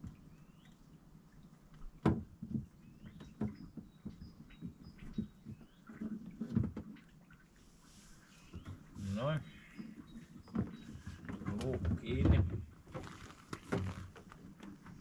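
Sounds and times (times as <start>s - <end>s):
small birds chirping: 0.1s - 12.2s.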